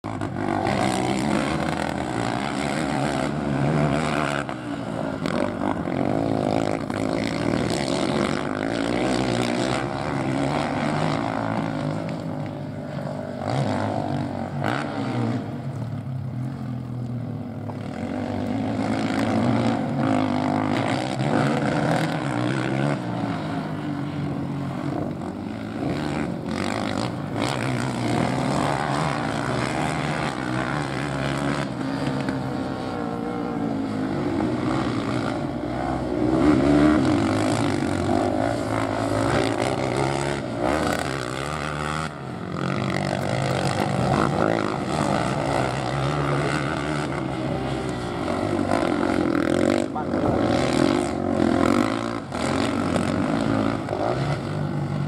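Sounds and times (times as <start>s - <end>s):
quad engines revving: 0.0s - 55.0s.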